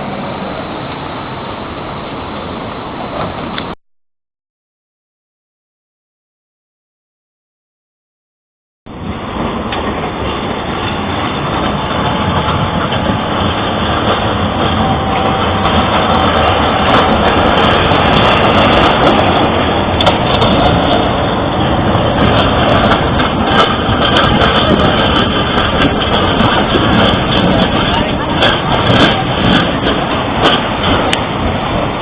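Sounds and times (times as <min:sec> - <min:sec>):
tram running: 0:00.0 - 0:03.8, 0:08.9 - 0:32.0.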